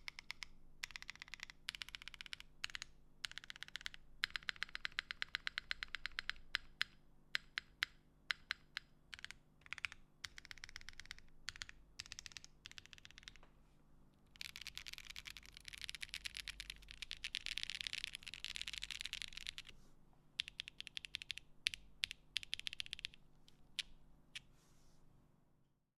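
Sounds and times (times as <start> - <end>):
mechanical keyboard typing: 0.0 - 13.4, 14.3 - 19.7, 20.4 - 23.9.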